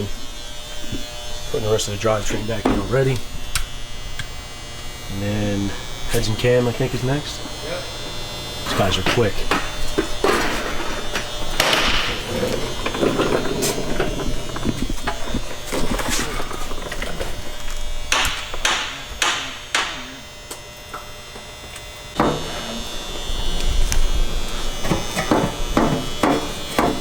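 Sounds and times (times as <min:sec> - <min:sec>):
small power tool buzzing: 0:00.0 - 0:27.0.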